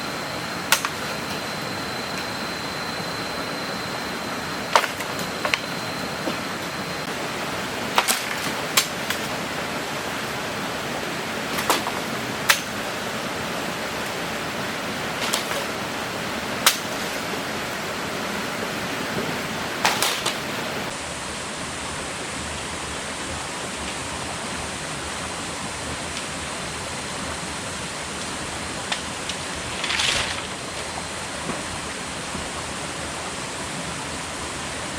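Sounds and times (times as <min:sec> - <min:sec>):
water rushing: 0:00.0 - 0:34.8.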